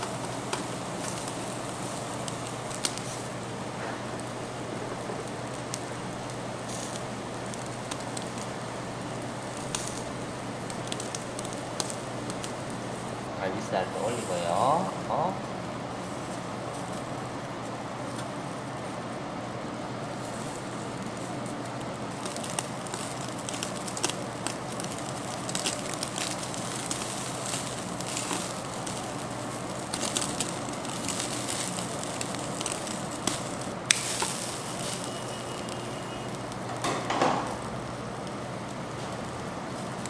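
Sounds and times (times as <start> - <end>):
fat popping and crackling: 0.0 - 13.3, 20.0 - 40.0
beef sizzling on a grill: 0.0 - 40.0.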